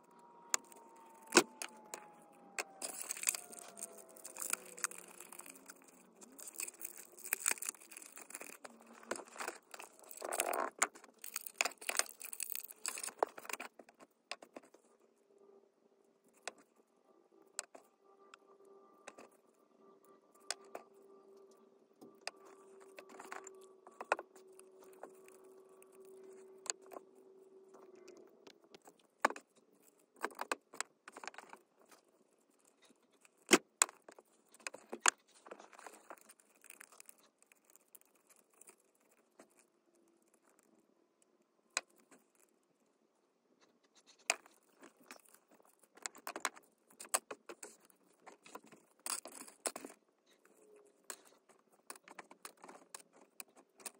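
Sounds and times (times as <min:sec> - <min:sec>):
faint steady hum: 0:00.0 - 0:53.9
small metal parts clicking and rattling: 0:00.4 - 0:14.9, 0:20.4 - 0:40.8, 0:43.6 - 0:53.9.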